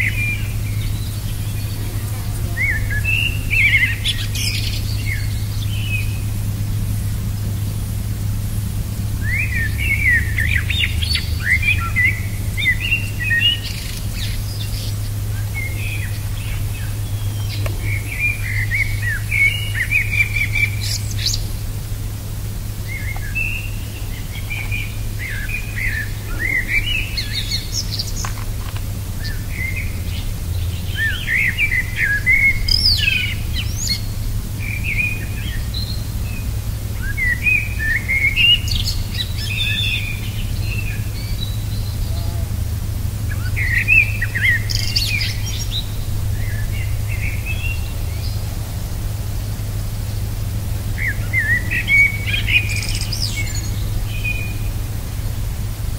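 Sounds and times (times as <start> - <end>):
birds chirping: 0.0 - 55.9
steady low hum: 0.0 - 55.9.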